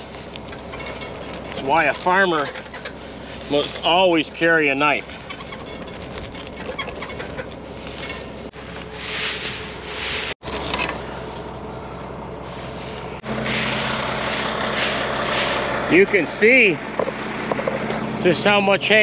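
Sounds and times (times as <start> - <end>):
rake tines sweeping hay: 0.0 - 11.3, 12.3 - 16.8
tractor engine hum: 0.0 - 19.0.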